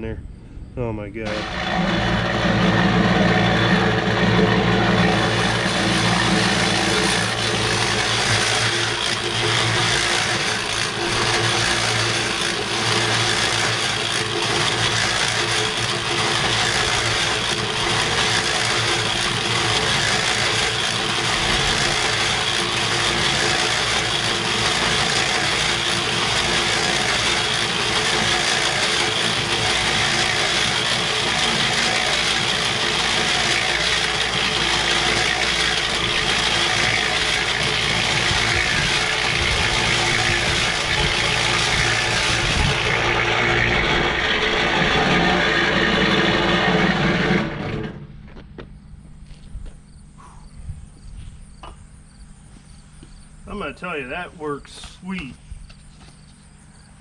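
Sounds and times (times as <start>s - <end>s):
low hum: 0.0s - 57.0s
cement mixer rattling: 1.2s - 48.5s.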